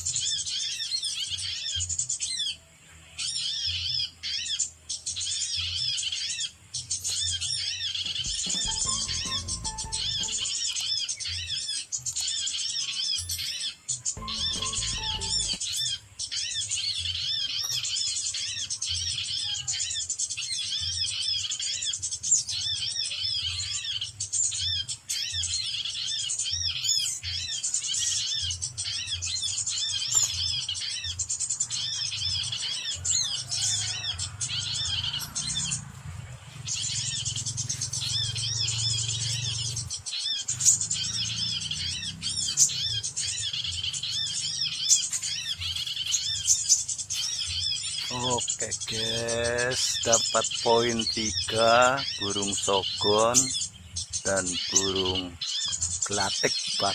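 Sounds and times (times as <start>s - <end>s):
small birds chirping rapidly: 0.0s - 56.9s.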